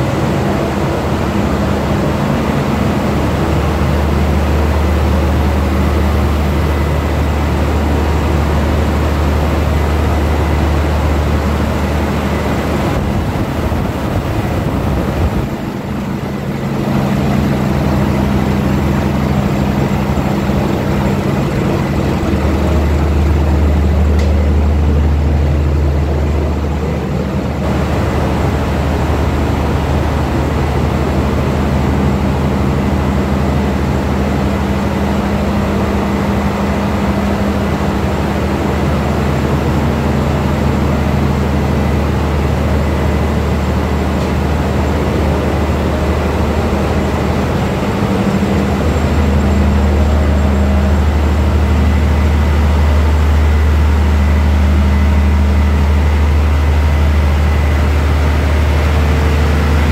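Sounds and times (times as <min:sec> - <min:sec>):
diesel engines droning: 0:00.0 - 0:59.9.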